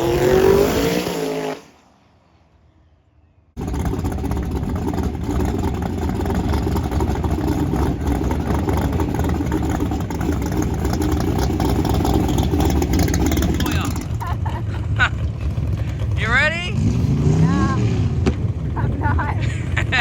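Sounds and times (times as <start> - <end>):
drag car engine revving: 0.0 - 1.8, 3.6 - 20.0
loud dense engine noise: 3.6 - 20.0.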